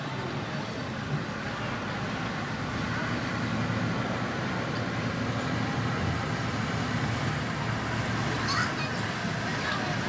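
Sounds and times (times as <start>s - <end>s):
road traffic rumble: 0.0s - 10.0s
wind: 0.0s - 10.0s.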